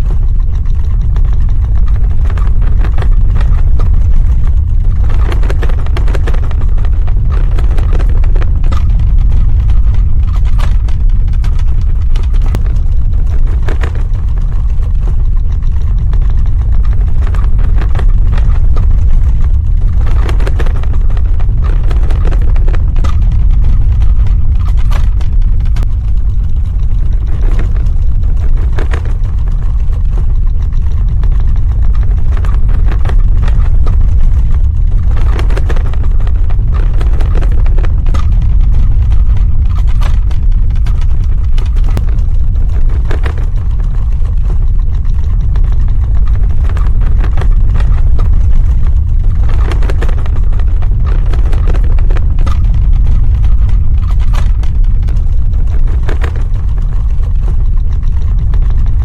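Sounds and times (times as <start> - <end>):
crackles and rattles: 0.0 - 59.0
earthquake deep rumble: 0.0 - 59.0.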